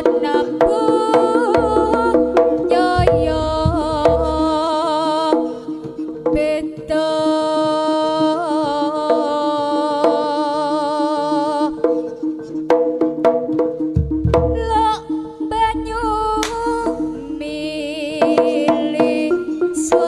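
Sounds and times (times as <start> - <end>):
hand drum strokes: 0.0 - 20.0
wavering gamelan melody: 0.0 - 20.0.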